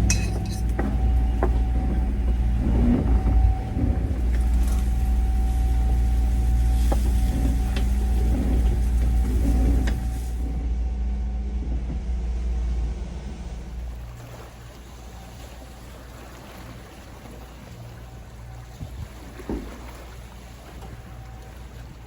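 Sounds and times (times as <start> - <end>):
boat motor rumbling: 0.0 - 22.0
water noise: 0.0 - 22.0.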